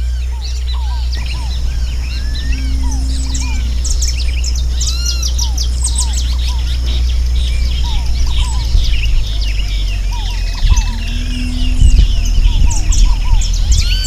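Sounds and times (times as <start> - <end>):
chorus of birds singing: 0.0 - 14.0
steady low rumble: 0.0 - 14.0.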